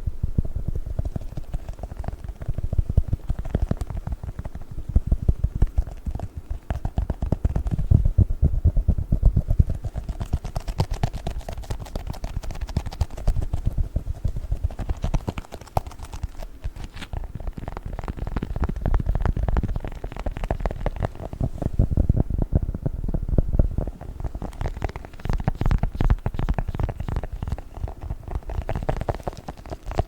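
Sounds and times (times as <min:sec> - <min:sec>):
chocolate crackling and squishing: 0:01.0 - 0:07.9, 0:09.4 - 0:21.5, 0:23.8 - 0:30.0.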